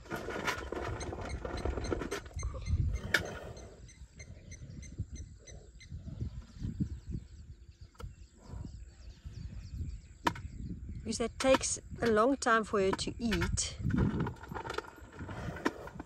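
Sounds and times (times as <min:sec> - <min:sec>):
bird chirping: 0:00.6 - 0:13.6.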